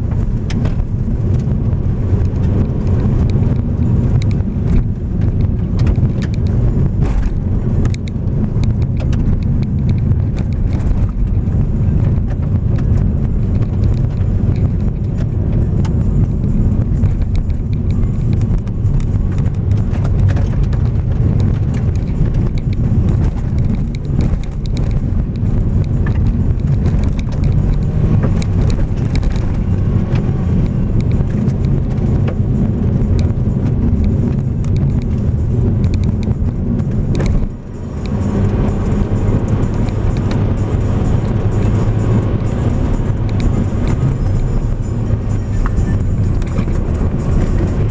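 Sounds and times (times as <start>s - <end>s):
car engine and tyre rumble: 0.0s - 47.9s
gravel crunching under car: 0.0s - 47.9s.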